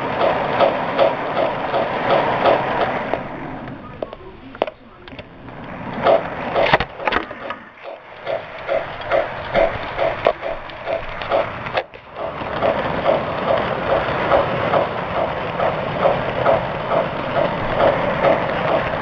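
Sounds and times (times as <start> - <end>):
sharp knocks: 0.0 - 3.2, 6.0 - 19.0
model train running rumble: 0.0 - 19.0
model train wheels clicking: 0.0 - 19.0.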